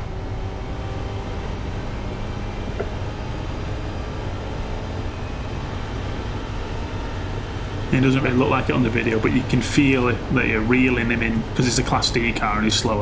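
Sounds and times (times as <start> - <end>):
race car engine drone: 0.0 - 13.0.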